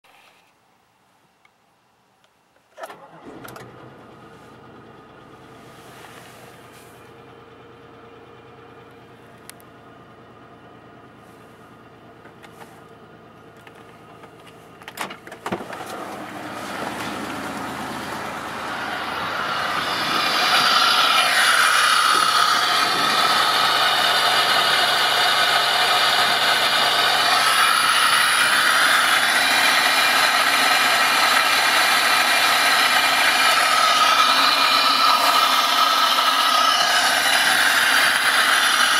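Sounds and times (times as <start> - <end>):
car engine running: 3.1 - 38.9.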